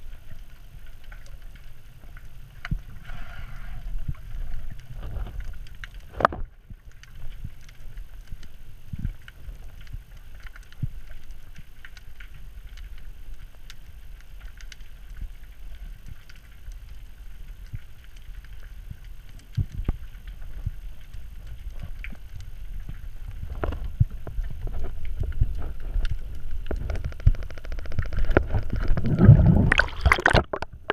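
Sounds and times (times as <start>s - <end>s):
muffled underwater rumble: 0.0s - 30.9s
small clicks and crackles: 0.0s - 30.9s.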